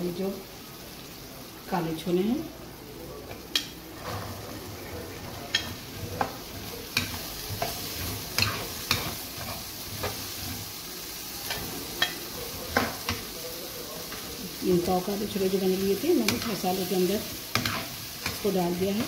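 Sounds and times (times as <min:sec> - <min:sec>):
chickpeas sizzling in oil: 0:00.0 - 0:19.0.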